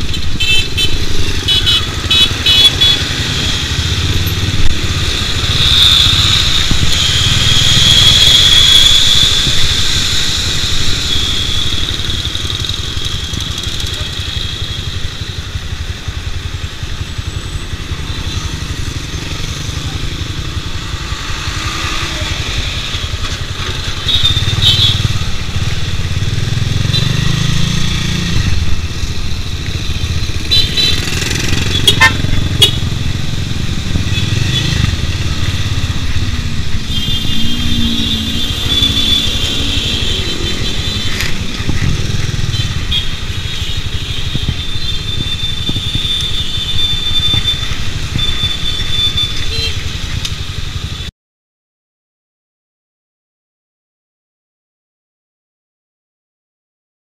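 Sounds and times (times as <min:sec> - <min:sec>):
motorcycle engine running: 0:00.0 - 0:51.1
surrounding traffic engines: 0:00.0 - 0:51.1.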